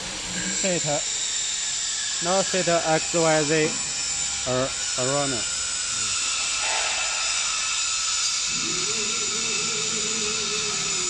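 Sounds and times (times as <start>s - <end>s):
machine high hiss: 0.0s - 11.0s
motor whine: 0.0s - 11.0s.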